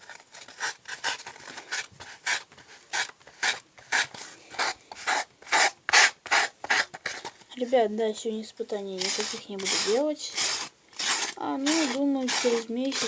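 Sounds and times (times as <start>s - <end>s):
rasping polystyrene foam by hand: 0.0s - 7.3s, 9.0s - 13.0s.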